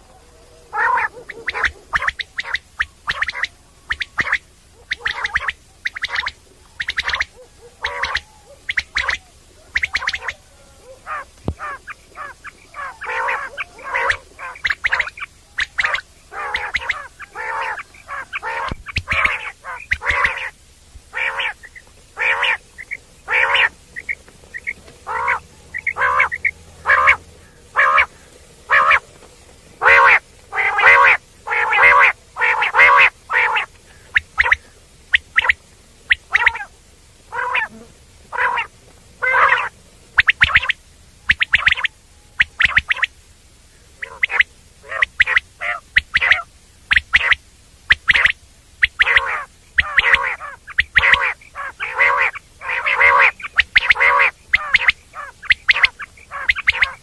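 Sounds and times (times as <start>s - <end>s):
quail calling: 0.0s - 57.0s.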